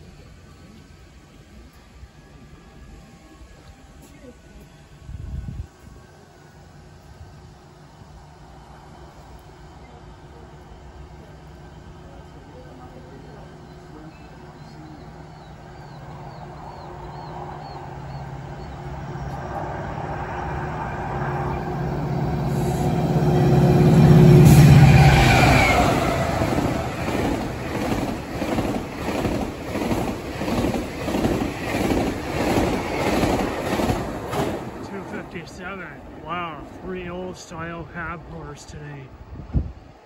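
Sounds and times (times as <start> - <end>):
locomotive engine drone: 0.0 - 39.4.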